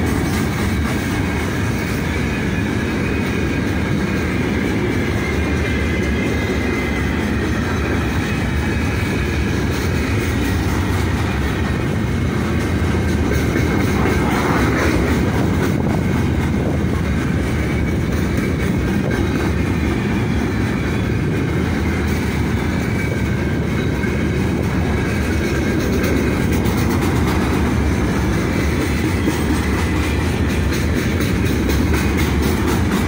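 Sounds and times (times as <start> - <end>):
train wheels rumbling on rail: 0.0 - 33.0
wheels clicking over rail joints: 0.0 - 33.0.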